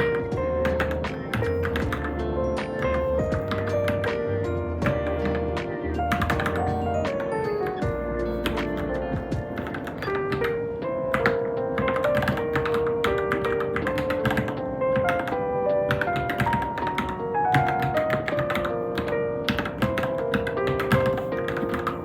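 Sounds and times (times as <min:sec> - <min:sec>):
mechanical keyboard typing: 0:00.0 - 0:07.8, 0:08.4 - 0:22.0
background music with held notes: 0:00.0 - 0:22.0.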